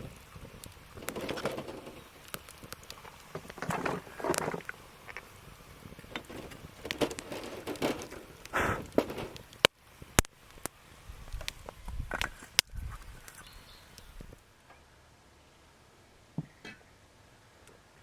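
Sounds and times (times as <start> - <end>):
loud pops of burning wood: 0.0 - 14.4
wood fire crackling: 0.0 - 14.7.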